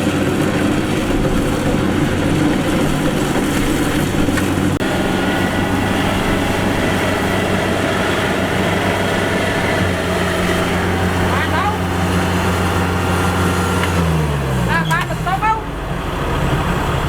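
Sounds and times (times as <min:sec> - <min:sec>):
combine harvester engine humming: 0:00.0 - 0:17.0.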